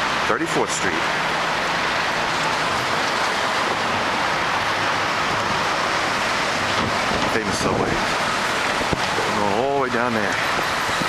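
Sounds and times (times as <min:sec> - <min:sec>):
city traffic hiss: 0:00.0 - 0:11.0.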